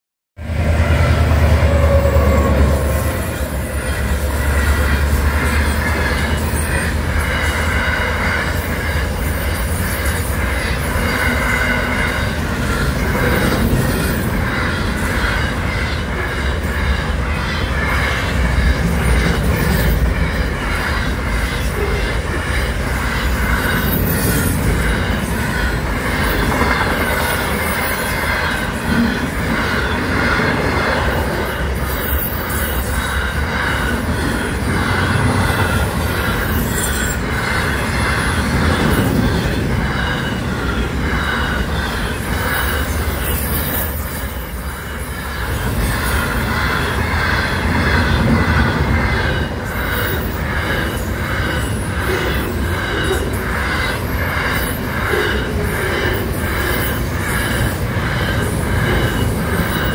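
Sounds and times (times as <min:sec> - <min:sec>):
freight train rolling past: 0:00.4 - 0:59.9
wheels running on rails: 0:00.8 - 0:59.9.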